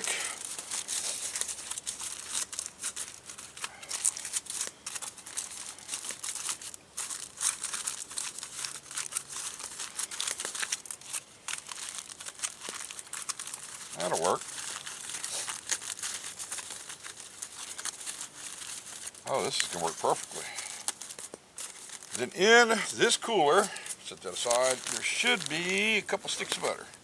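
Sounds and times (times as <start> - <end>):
foil crinkling and tearing: 0.0 - 27.0.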